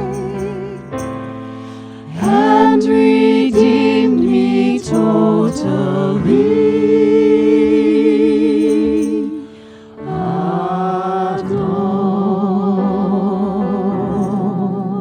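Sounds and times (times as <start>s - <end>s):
voices singing worship song: 0.0s - 15.0s.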